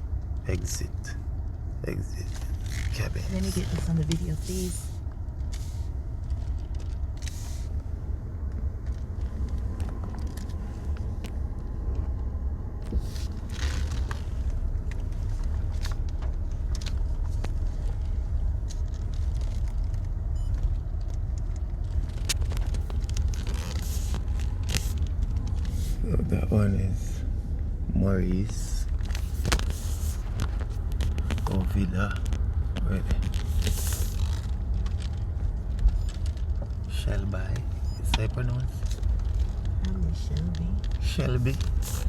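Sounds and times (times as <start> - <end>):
car cabin rumble: 0.0 - 42.0
small clicks and ticks: 4.0 - 12.3, 13.4 - 25.8, 28.8 - 42.0.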